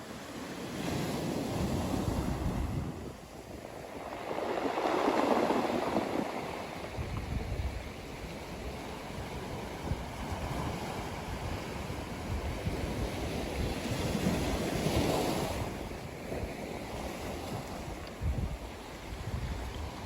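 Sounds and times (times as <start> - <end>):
ocean waves breaking on beach: 0.0 - 20.0
wind rumbling on microphone: 0.0 - 20.0.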